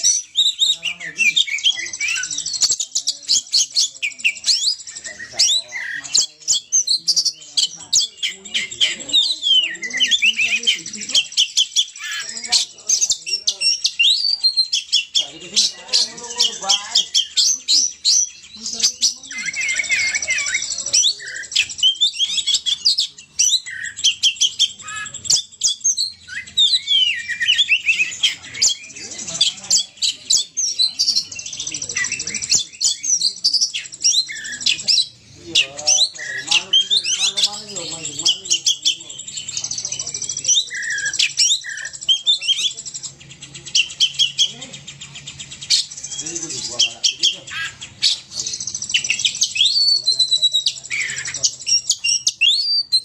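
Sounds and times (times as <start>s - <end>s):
bird singing: 0.0s - 53.0s.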